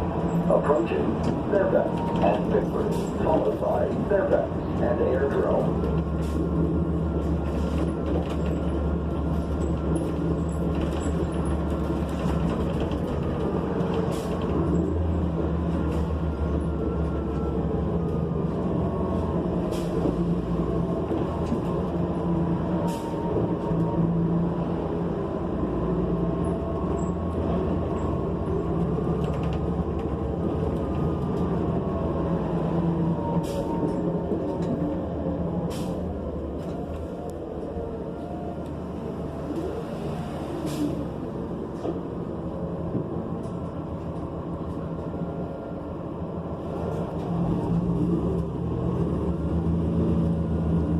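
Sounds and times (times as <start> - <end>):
bus engine droning: 0.0 - 50.9.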